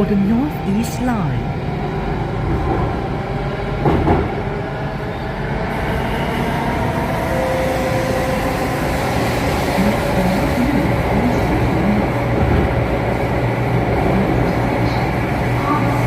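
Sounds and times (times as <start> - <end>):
metro train rolling: 0.0 - 16.0.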